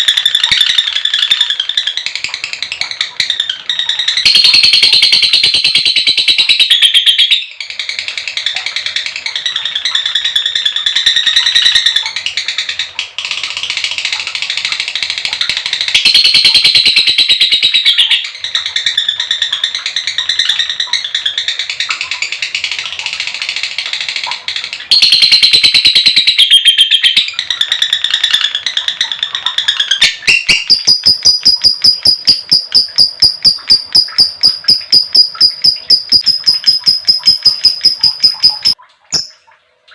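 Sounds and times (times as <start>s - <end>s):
lovebird chattering: 0.0s - 12.9s, 15.8s - 22.3s, 24.9s - 39.4s.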